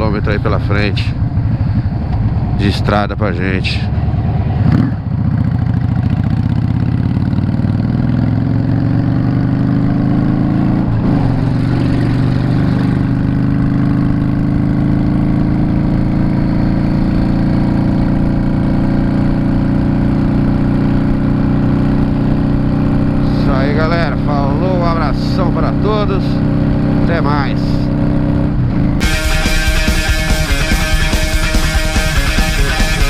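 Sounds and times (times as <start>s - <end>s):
motorcycle engine running: 3.7s - 33.0s.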